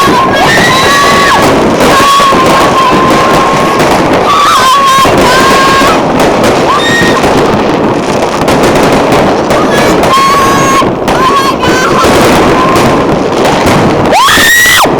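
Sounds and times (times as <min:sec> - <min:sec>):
fireworks crackling and banging: 0:00.0 - 0:14.9
fireworks whistling: 0:00.0 - 0:14.9.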